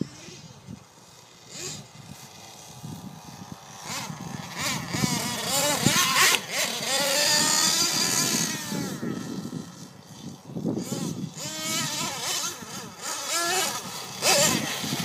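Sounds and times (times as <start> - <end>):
toy truck engine revving: 0.0 - 15.0.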